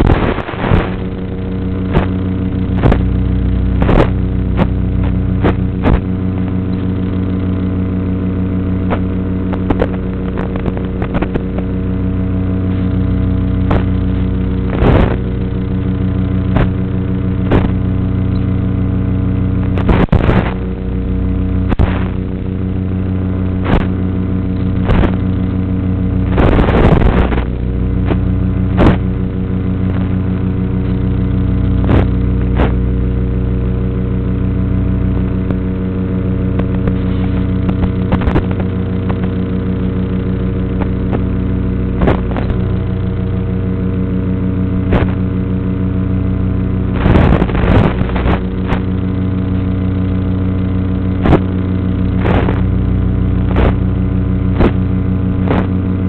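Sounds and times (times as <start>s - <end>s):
short crackles: 0.0s - 53.9s, 54.5s - 56.0s
bursts of static: 0.0s - 56.0s.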